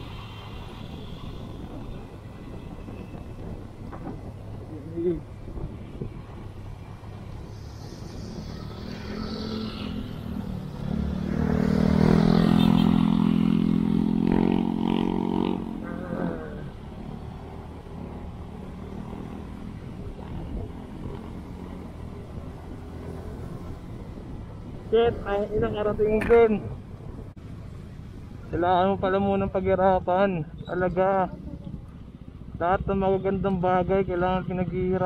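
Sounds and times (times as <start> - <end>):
low engine and road rumble: 0.0 - 35.0.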